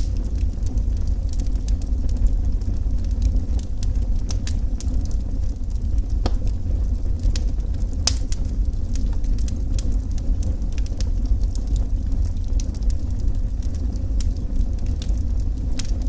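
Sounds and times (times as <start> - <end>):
steady low rumble: 0.0 - 16.0
wood fire crackling and popping: 0.0 - 16.0.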